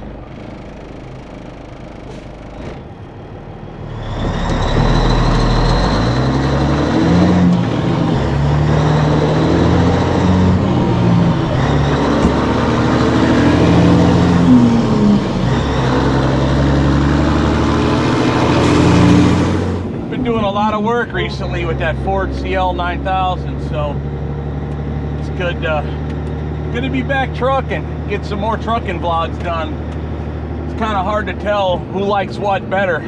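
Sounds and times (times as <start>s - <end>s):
truck diesel engine pulling away: 0.0s - 33.0s.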